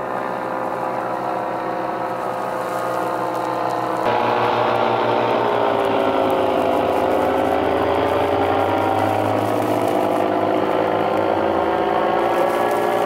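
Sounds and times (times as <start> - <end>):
paraglider propeller engine droning: 0.0 - 13.0.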